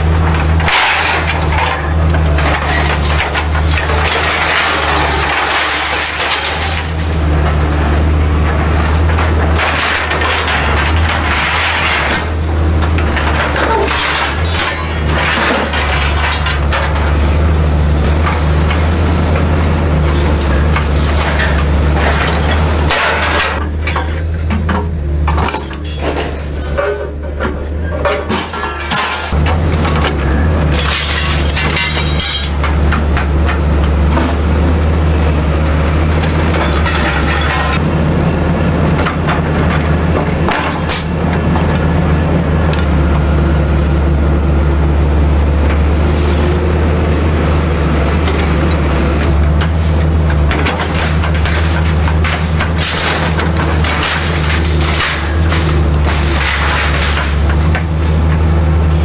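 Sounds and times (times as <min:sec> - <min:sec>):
scrap metal clattering and crashing: 0:00.0 - 0:42.9, 0:46.4 - 0:59.0
excavator diesel engine running: 0:00.0 - 0:59.0.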